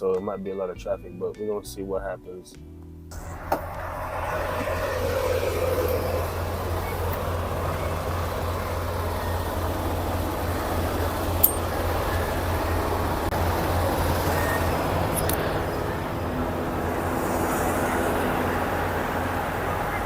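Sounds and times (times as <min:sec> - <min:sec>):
truck engine droning: 0:03.1 - 0:20.0.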